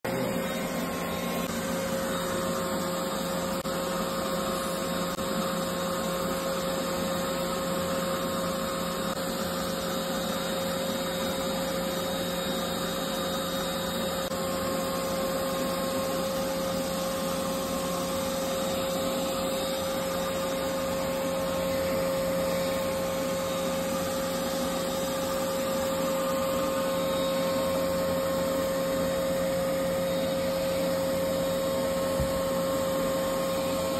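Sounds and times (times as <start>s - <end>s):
vacuum cleaner whining: 0.0s - 33.9s.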